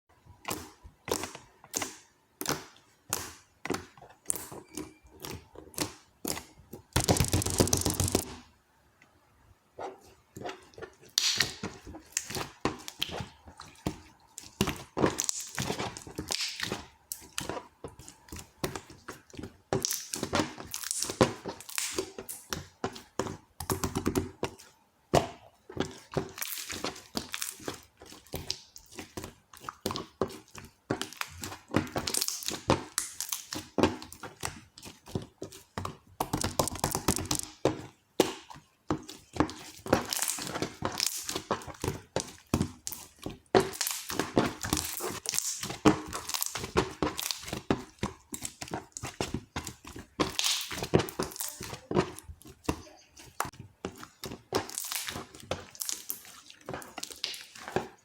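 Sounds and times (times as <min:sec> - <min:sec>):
crinkling and rustling: 0:00.4 - 0:08.5, 0:09.8 - 0:58.0
small objects clicking and tapping: 0:00.5 - 0:08.4, 0:11.1 - 0:58.0.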